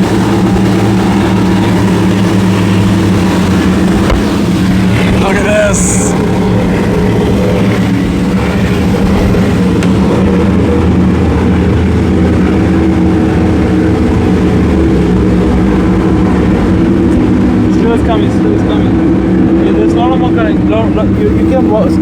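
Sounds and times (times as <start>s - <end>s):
higher engine note: 0.0s - 22.0s
motorboat engines droning: 0.0s - 22.0s.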